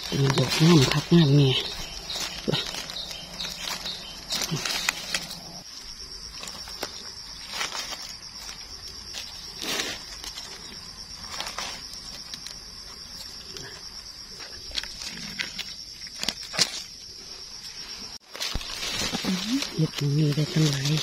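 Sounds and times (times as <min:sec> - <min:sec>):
insects droning: 0:00.0 - 0:21.0
rustles and crackles: 0:00.0 - 0:21.0.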